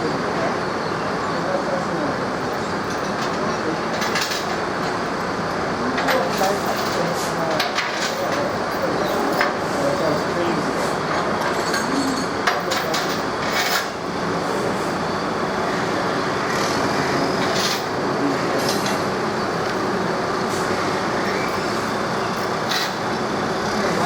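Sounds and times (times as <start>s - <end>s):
train rumbling and rattling on track: 2.1s - 24.0s.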